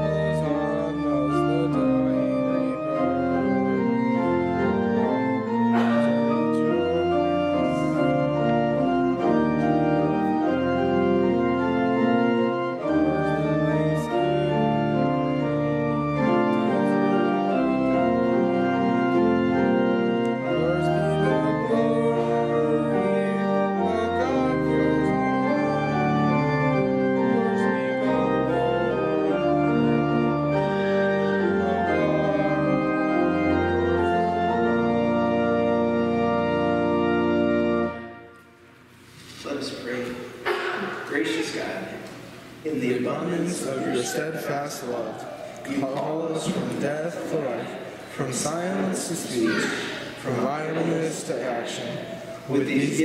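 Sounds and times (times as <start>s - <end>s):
organ playing sustained chords: 0.0s - 53.0s.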